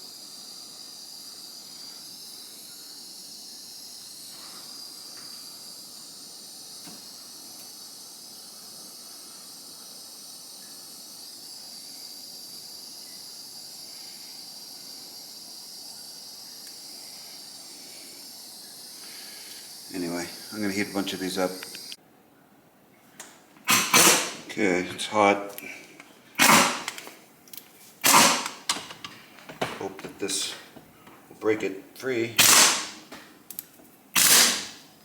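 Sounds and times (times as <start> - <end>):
gas torch flame hissing: 0.0 - 22.0, 23.6 - 35.0.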